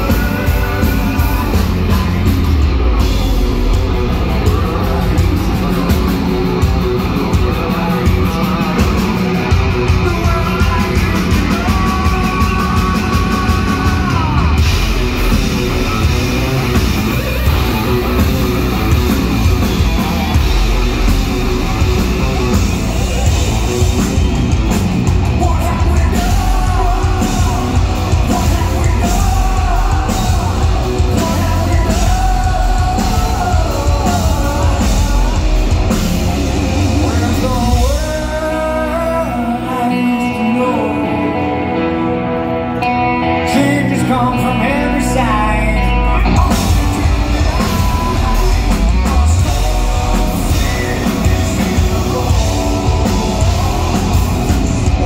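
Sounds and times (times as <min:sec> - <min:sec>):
man singing: 0:00.0 - 0:22.6, 0:25.2 - 0:55.0
live hard rock band: 0:00.0 - 0:55.0.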